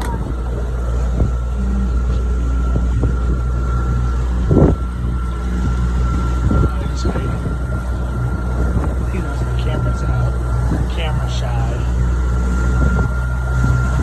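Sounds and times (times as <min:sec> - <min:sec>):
boat engine droning: 0:00.0 - 0:14.0
thin constant whine: 0:00.0 - 0:14.0.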